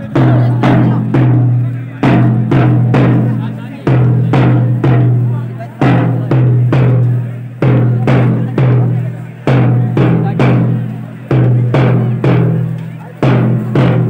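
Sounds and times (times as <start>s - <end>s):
deep drum beating marching rhythm: 0.0s - 14.0s.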